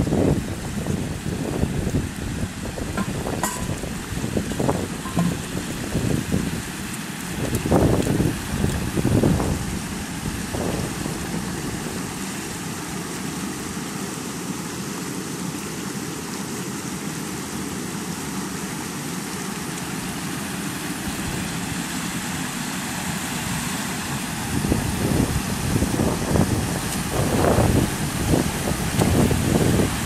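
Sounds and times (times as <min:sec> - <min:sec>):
floodwater rushing over rocks: 0:00.0 - 0:30.0.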